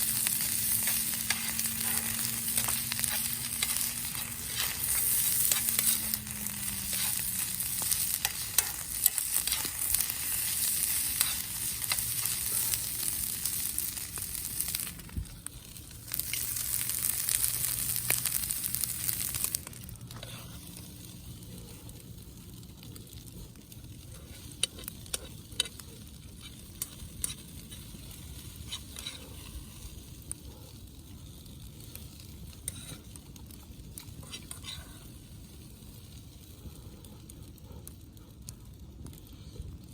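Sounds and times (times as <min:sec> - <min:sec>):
food sizzling in a pan: 0:00.0 - 0:21.6, 0:24.0 - 0:30.2, 0:31.6 - 0:36.1.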